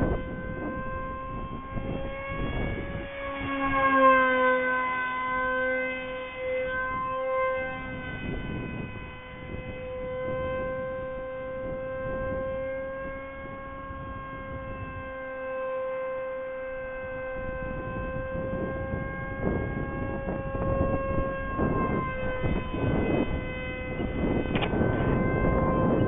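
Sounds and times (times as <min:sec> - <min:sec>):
model jet motor whine: 0:00.0 - 0:26.0
wind rumbling on microphone: 0:00.0 - 0:26.0.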